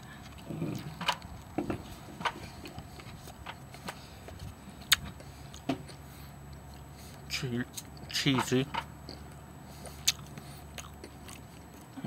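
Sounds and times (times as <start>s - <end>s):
crunchy chewing: 0.1s - 8.1s, 9.0s - 12.0s.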